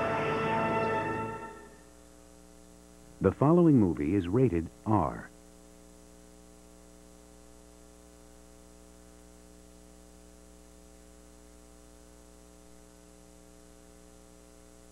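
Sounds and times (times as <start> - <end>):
electrical mains hum: 0.0 - 14.9
faint hiss: 0.0 - 14.9.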